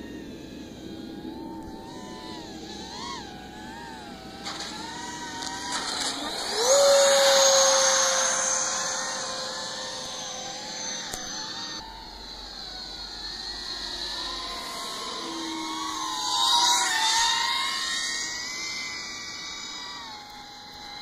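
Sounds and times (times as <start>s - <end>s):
model aircraft motors whining: 0.0s - 21.0s.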